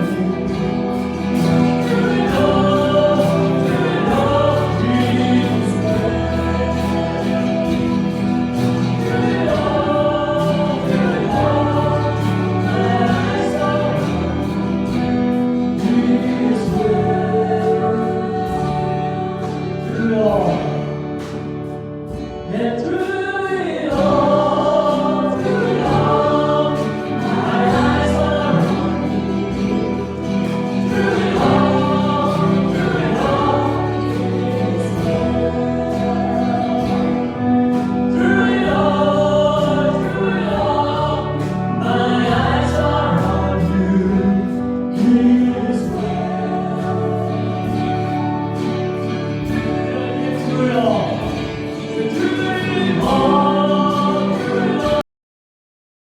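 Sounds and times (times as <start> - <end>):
choir singing gospel song: 0.0 - 55.0
instrumental accompaniment: 0.0 - 55.0.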